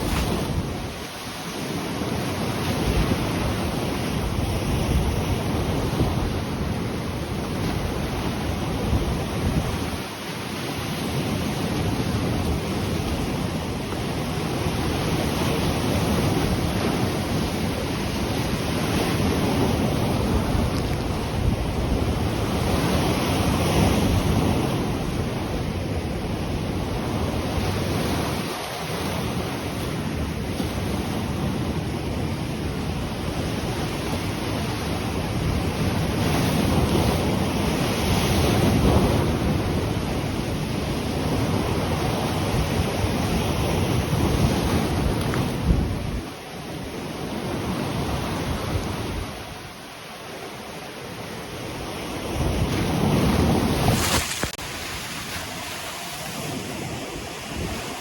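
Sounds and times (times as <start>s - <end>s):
wind buffeting microphone: 0.0s - 49.9s, 50.9s - 58.0s
ocean surf on the shore: 0.0s - 58.0s.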